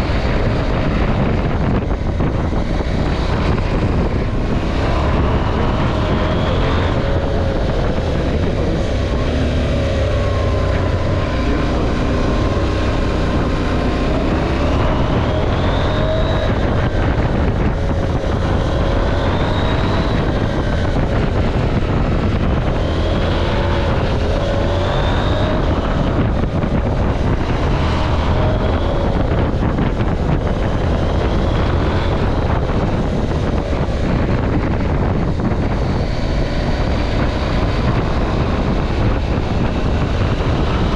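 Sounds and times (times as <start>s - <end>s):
motorcycle engine accelerating: 0.0s - 40.9s
wind rumbling on microphone: 0.0s - 40.9s.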